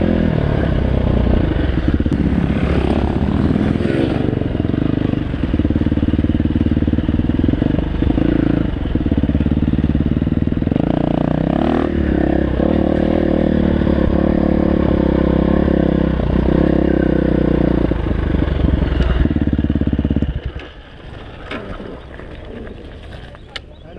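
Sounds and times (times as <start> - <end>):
dirt bike engine running: 0.0 - 23.5.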